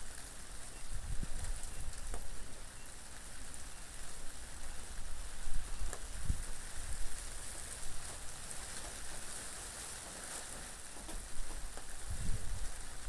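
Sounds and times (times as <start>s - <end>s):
steady rain: 0.0s - 13.0s
wind: 0.0s - 13.0s.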